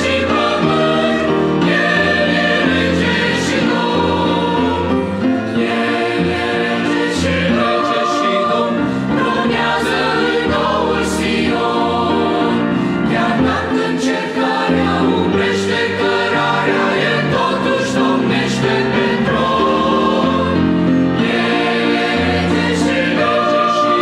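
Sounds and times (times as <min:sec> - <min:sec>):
mixed choir singing a hymn: 0:00.0 - 0:24.0.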